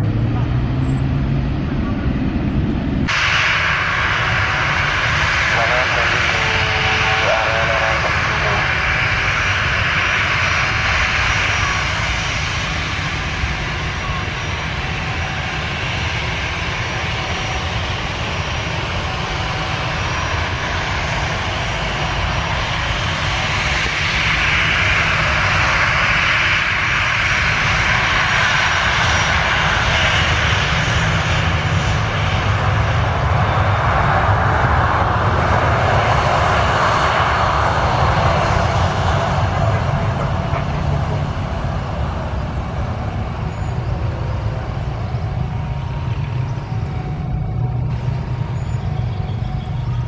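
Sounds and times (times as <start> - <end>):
airliner engines rumbling: 0.0 - 50.0.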